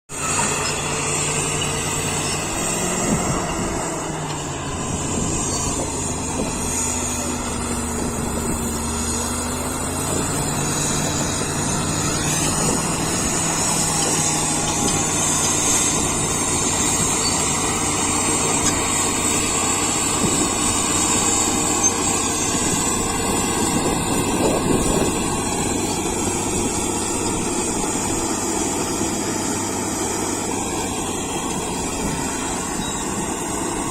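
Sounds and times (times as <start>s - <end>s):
bulldozer diesel engine running: 0.1s - 33.9s.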